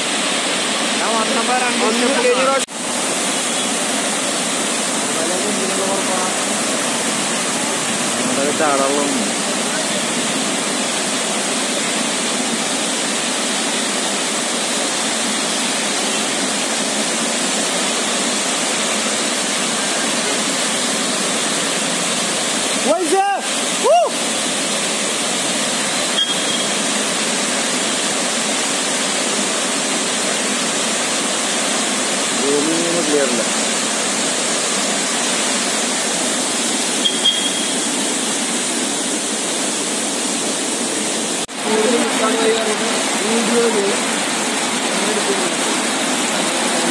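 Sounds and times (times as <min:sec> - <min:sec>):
floodwater rushing roar: 0:00.0 - 0:46.9.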